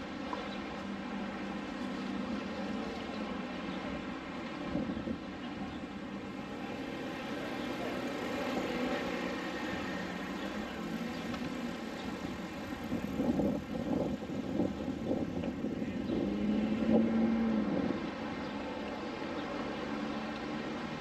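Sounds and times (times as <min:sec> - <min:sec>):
vehicle engine hum: 0:00.0 - 0:21.0.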